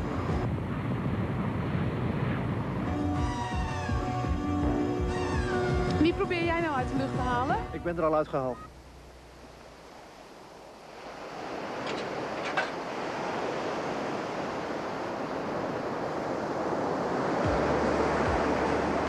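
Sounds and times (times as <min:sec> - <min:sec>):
sea surf: 0:00.0 - 0:08.7, 0:09.3 - 0:19.0
wind: 0:00.0 - 0:19.0.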